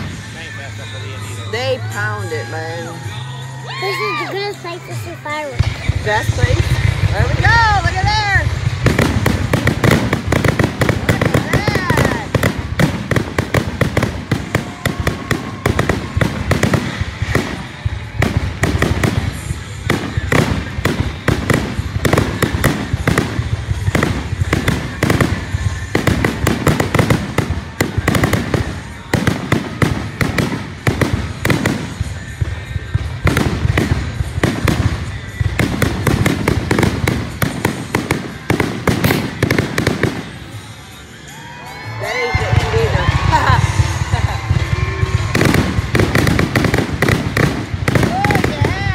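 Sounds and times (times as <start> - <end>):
fireworks launching and bursting: 0.0 - 48.9.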